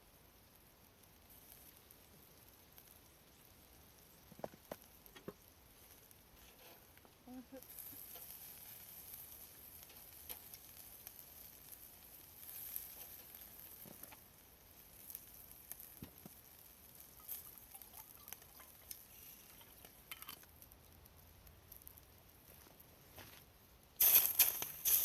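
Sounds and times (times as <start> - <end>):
food sizzling on a grill: 0.0 - 23.2, 23.9 - 25.0
small crackles and clicks: 0.1 - 25.0.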